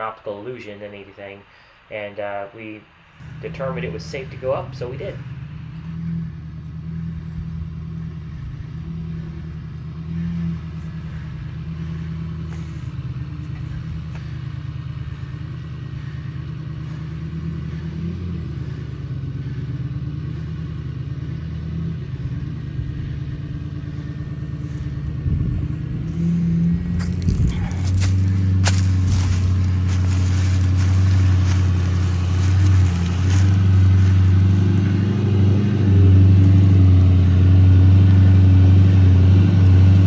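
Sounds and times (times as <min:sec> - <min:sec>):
diesel engine running at low revs: 0:02.8 - 0:40.0.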